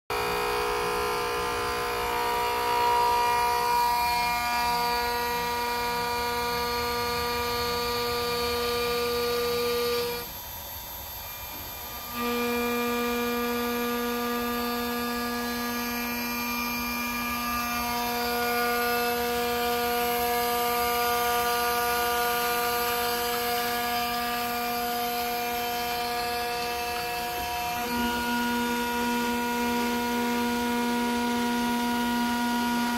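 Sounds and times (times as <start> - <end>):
cnc router motors whining: 0.1 - 32.9.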